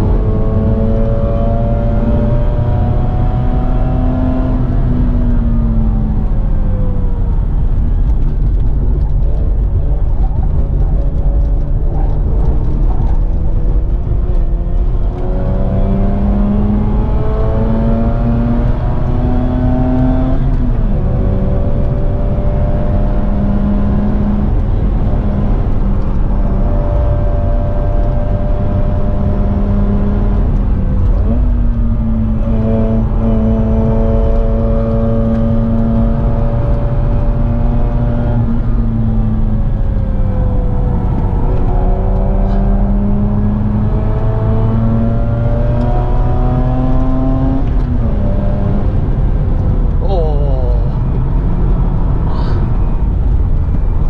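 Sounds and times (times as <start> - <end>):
low road rumble: 0.0 - 54.0.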